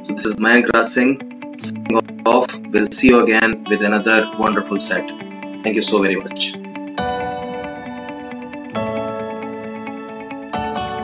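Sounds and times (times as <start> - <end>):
ambient instrumental music: 0.0 - 11.0.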